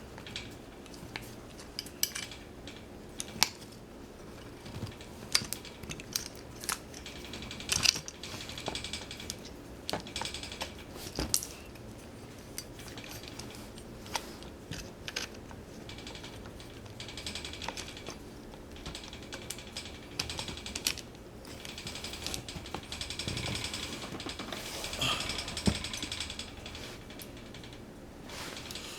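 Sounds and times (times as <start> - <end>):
tools and metal parts clicking: 0.2 - 27.8
rapid even clicking: 4.4 - 28.9.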